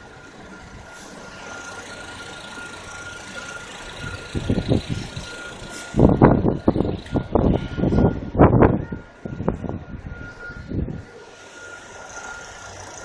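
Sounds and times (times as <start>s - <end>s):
irregular rumbling bursts: 0.0s - 13.0s
motor vehicle running: 0.0s - 13.0s
thin whine: 0.0s - 13.0s.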